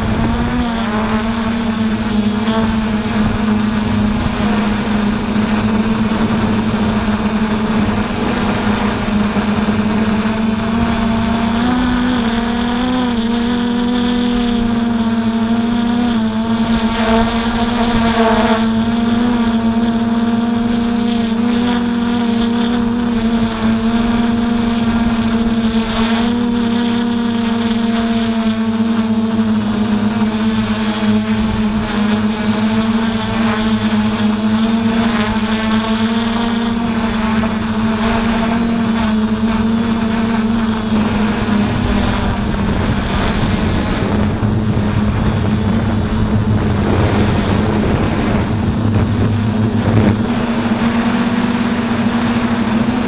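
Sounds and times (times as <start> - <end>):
quadcopter propellers buzzing: 0.0 - 53.0.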